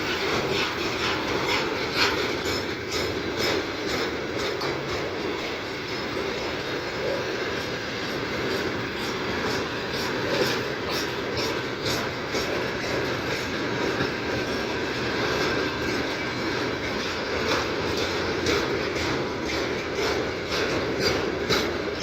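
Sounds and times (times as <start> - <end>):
train wheels rumbling on rail: 0.0 - 22.0
wheels clicking over rail joints: 0.0 - 22.0.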